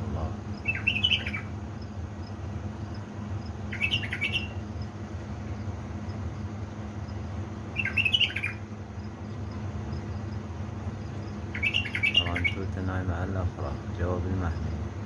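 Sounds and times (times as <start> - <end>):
bulbul singing warbled phrases: 0.0 - 6.5, 7.1 - 15.0
steady low hum: 0.0 - 15.0.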